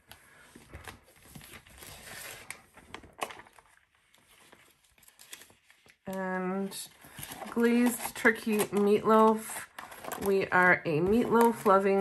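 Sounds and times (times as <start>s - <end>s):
plastic sheets rustling: 0.0s - 12.0s.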